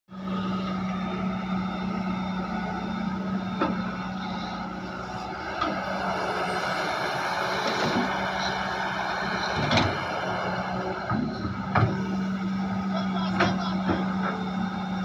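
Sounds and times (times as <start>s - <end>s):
excavator diesel engine running: 0.1s - 15.0s.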